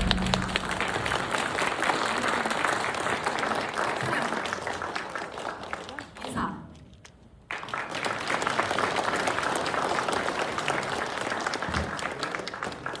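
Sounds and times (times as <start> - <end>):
audience applauding: 0.0 - 6.1, 7.5 - 13.0.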